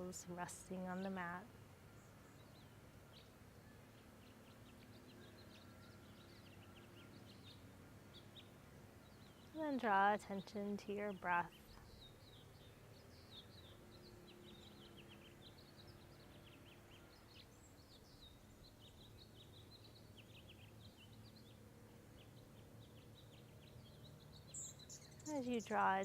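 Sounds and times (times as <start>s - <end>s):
faint birds chirping: 0.0s - 26.0s
low steady hum: 0.0s - 26.0s.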